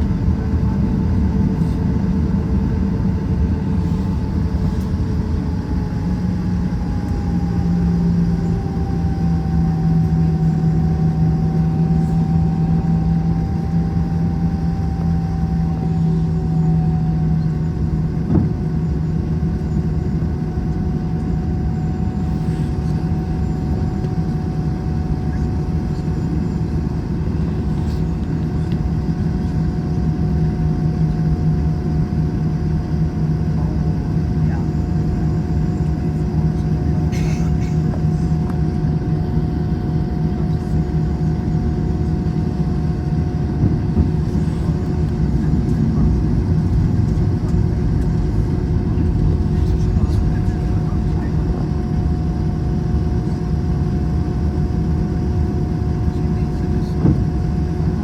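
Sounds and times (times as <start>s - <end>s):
jet engine cabin drone: 0.0s - 58.0s.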